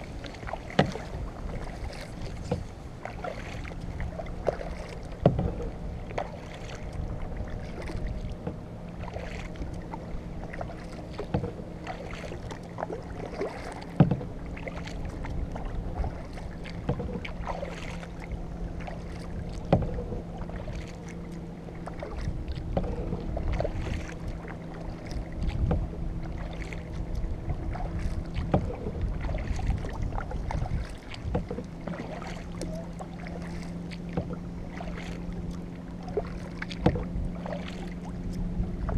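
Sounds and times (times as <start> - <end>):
low hum and rumble: 0.0 - 38.9
paddle splashing water: 0.0 - 38.9.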